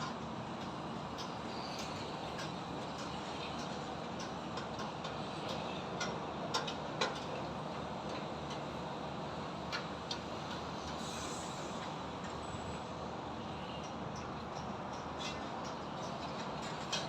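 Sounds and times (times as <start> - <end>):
rumble of traffic and machinery: 0.0 - 17.0.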